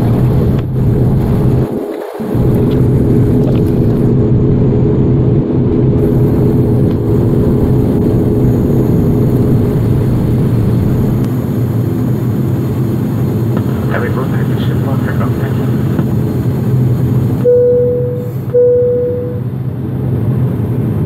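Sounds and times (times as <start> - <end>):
turboprop engine droning: 0.0 - 21.0.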